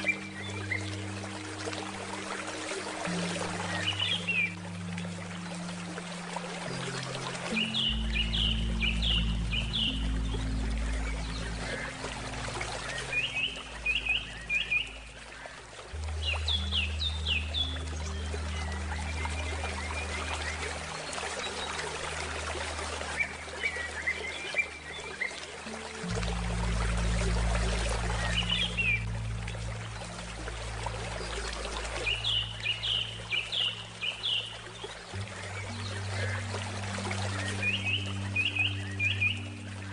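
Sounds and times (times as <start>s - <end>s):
birdsong: 0.0s - 39.9s
flowing stream: 0.0s - 39.9s
soft handpan music: 0.0s - 39.9s
songbird chirping: 0.0s - 39.9s.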